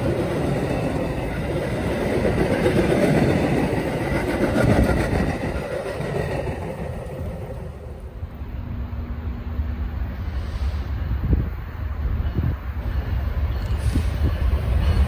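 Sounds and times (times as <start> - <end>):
low rumble of freight train: 0.0 - 15.0
train cars rolling on rails: 0.0 - 15.0.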